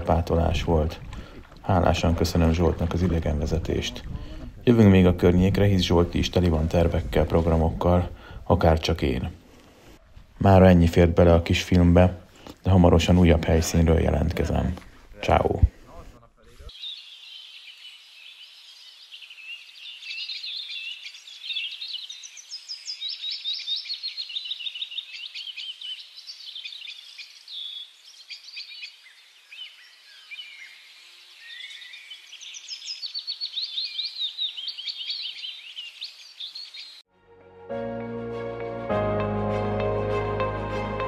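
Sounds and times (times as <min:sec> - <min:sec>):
songbirds chirping and trilling: 0:00.0 - 0:37.1.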